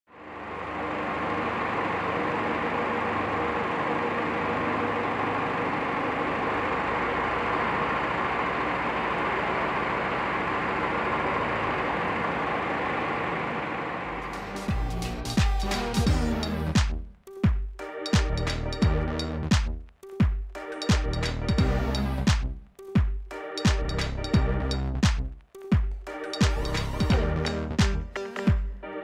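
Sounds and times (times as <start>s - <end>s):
vehicle engine running: 0.1s - 17.1s, 21.0s - 22.7s, 23.6s - 28.7s.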